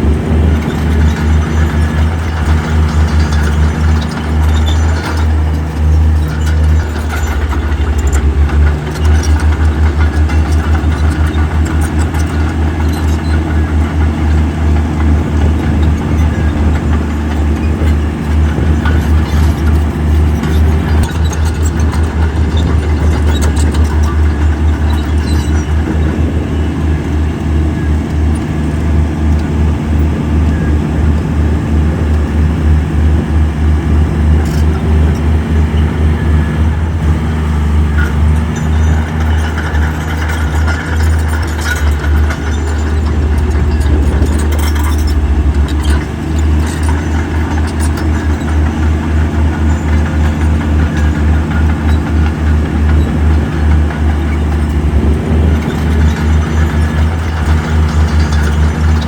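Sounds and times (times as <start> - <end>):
diesel machinery engine rumble: 0.0 - 59.0
knocks and rattles: 0.0 - 59.0.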